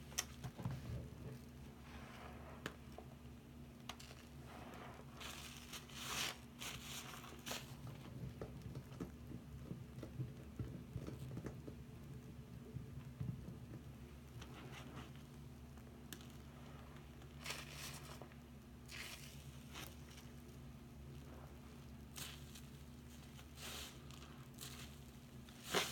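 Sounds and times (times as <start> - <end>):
foam bubbles crackling: 0.0 - 25.9
steady low hum: 0.0 - 25.9
wet sponges squishing: 1.3 - 3.2, 3.8 - 11.8, 14.4 - 25.9.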